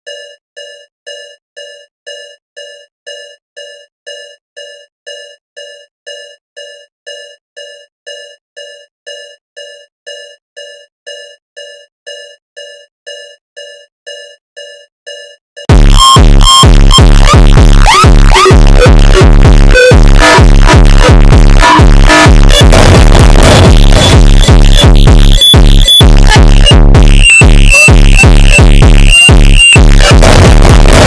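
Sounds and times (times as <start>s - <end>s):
electronic alarm beeping: 0.1s - 30.1s.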